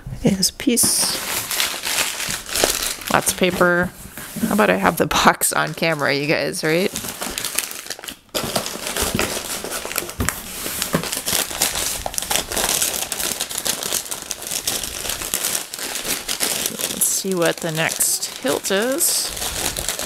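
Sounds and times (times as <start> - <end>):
packing paper crinkling: 0.8 - 3.8, 5.5 - 20.0.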